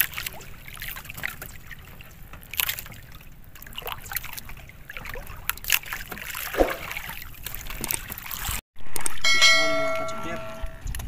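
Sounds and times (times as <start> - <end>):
water dripping and splashing: 0.0 - 10.6.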